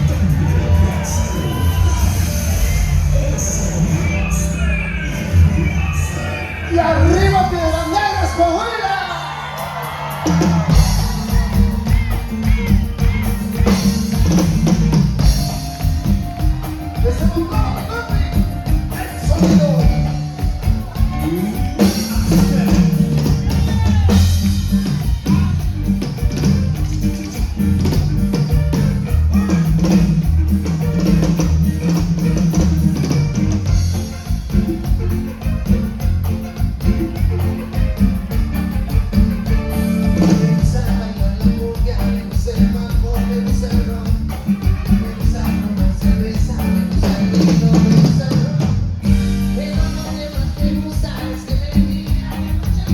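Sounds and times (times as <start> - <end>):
drum kit beat: 0.0 - 6.1, 6.7 - 52.9
bass guitar: 0.0 - 52.9.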